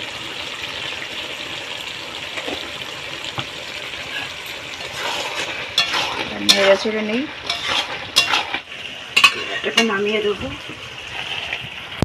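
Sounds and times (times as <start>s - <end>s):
curry sizzling: 0.0s - 12.0s.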